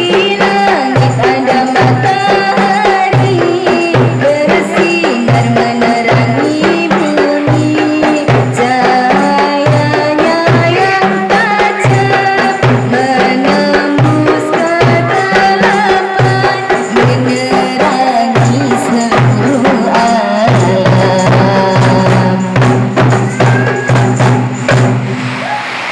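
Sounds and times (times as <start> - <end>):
devotional song with percussion: 0.0 - 25.9.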